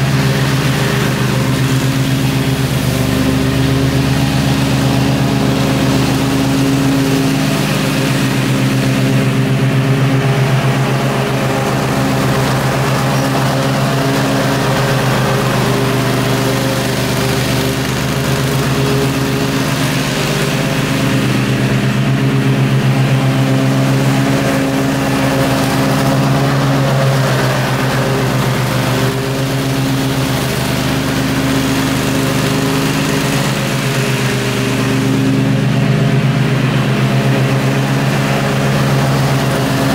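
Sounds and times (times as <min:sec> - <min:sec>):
riding mower engine droning: 0:00.0 - 0:39.9.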